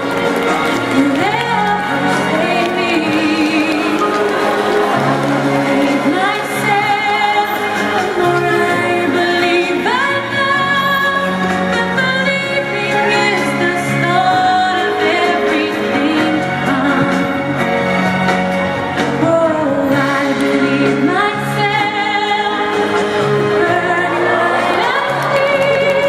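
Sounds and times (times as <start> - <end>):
background music with singing: 0.0 - 26.0.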